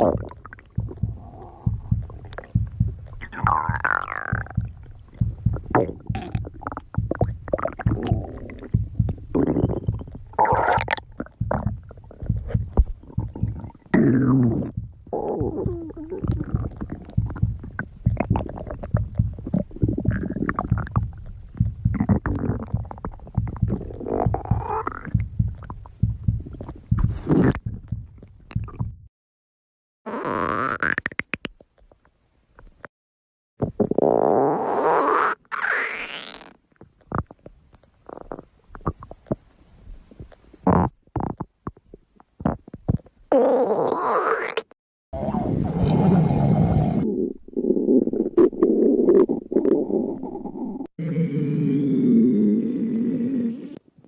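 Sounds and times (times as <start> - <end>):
stomach growling: 0.0 - 29.1, 33.6 - 54.0.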